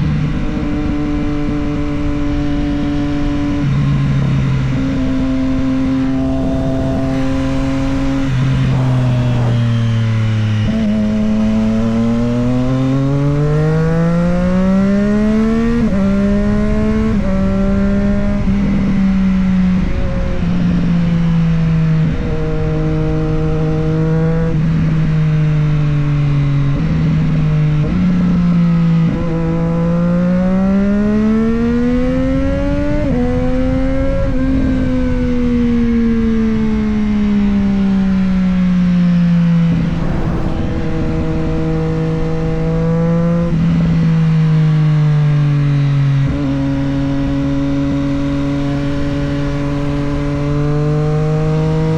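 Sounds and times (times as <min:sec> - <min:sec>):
motorcycle engine revving and shifting: 0:00.0 - 0:51.9
wind noise: 0:00.0 - 0:51.9.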